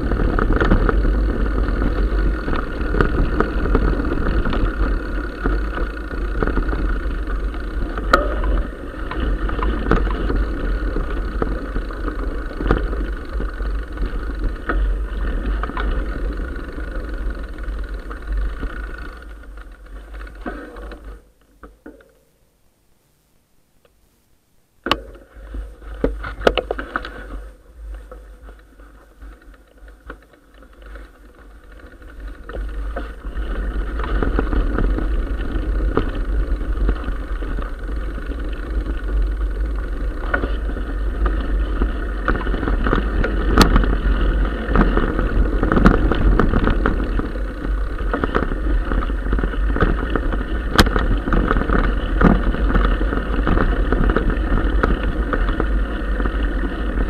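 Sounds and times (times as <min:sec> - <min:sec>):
bike tyres rumbling on gravel: 0:00.0 - 0:21.9, 0:24.8 - 0:57.0.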